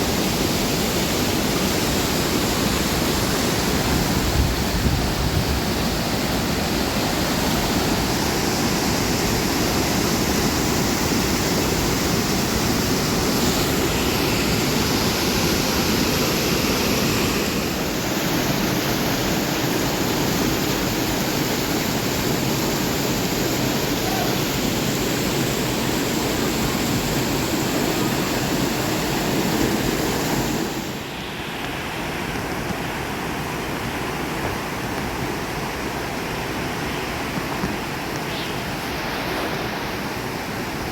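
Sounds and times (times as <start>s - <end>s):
waterfall roar: 0.0s - 40.9s.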